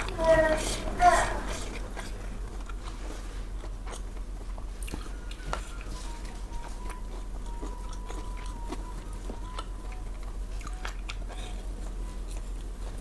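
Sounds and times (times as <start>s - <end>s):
person chewing with wet smacks: 0.0s - 13.0s.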